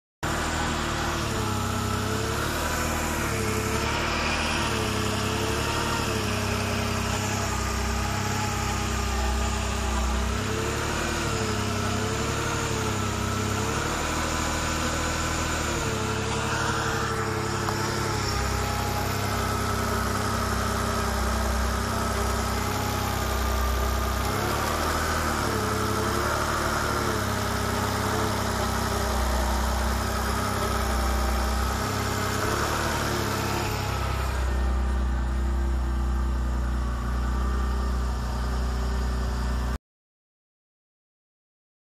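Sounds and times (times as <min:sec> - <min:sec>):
car engine idling: 0:00.2 - 0:39.8.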